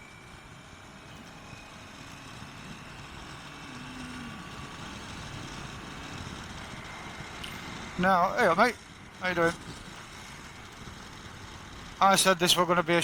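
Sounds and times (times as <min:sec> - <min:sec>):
motorcycle engine and road rumble: 0:00.0 - 0:13.0.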